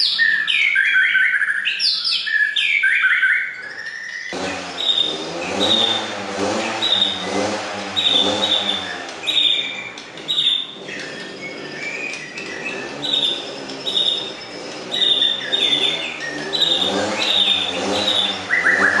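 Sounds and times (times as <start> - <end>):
bird singing clear high notes: 0.0 - 19.0.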